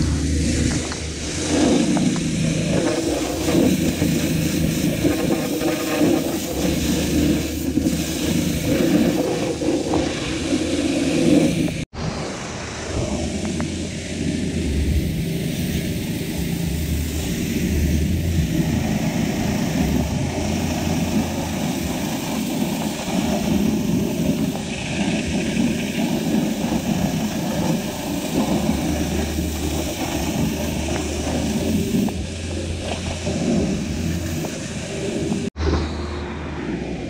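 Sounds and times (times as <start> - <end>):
pressure washer motor hum: 0.0 - 11.8, 12.5 - 36.1
water jet hissing: 0.0 - 36.8.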